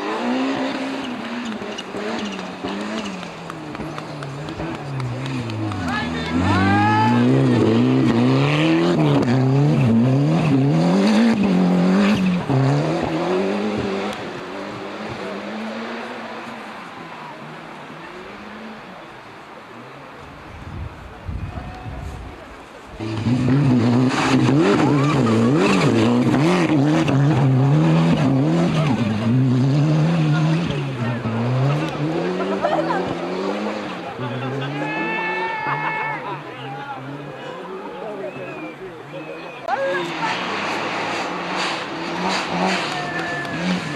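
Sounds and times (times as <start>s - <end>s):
rally car engine revving: 0.0s - 19.3s, 22.8s - 43.9s.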